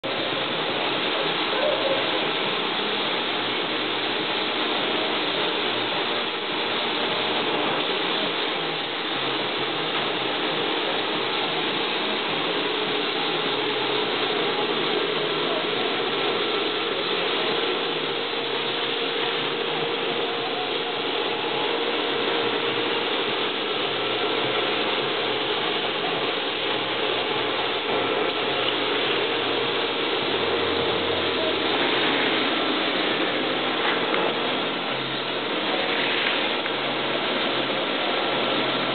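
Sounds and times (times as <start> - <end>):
paint spray gun hissing: 0.0 - 38.9.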